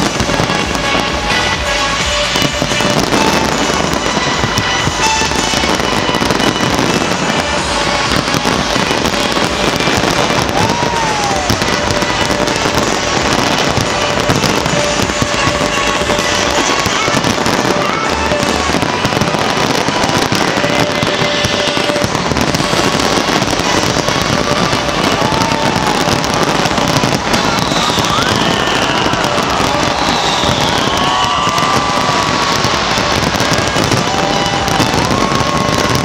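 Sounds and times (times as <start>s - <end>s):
fireworks bursting and crackling: 0.0s - 36.0s
music playing: 0.0s - 36.0s.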